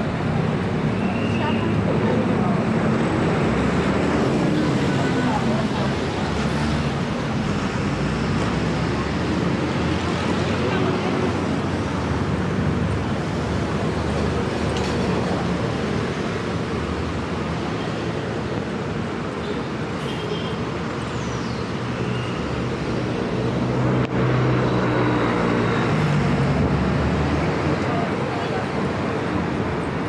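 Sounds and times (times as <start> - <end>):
bus engines droning: 0.0 - 30.0
road noise: 0.0 - 30.0.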